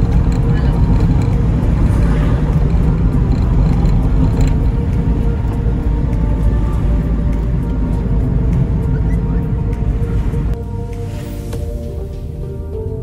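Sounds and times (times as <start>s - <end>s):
car driving on road: 0.0s - 13.0s.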